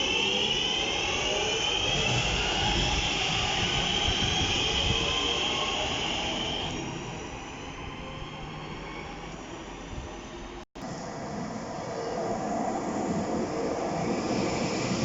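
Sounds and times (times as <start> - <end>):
train high whine: 0.0 - 15.0.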